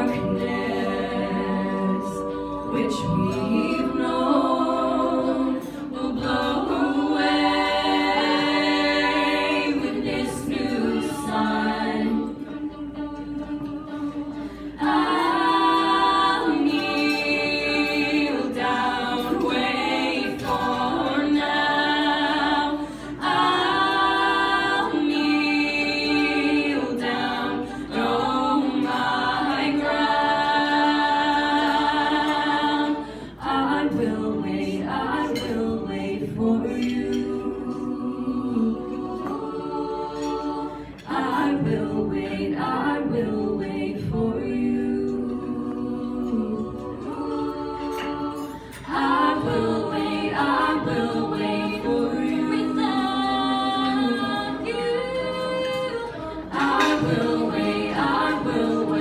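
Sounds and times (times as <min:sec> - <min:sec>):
women singing a cappella harmony: 0:00.0 - 0:59.0.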